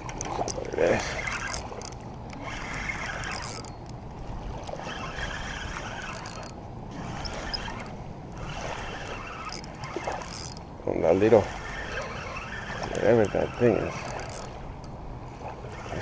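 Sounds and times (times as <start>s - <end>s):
fishing reel cranking: 0.0s - 3.9s, 4.6s - 15.0s, 15.7s - 16.0s.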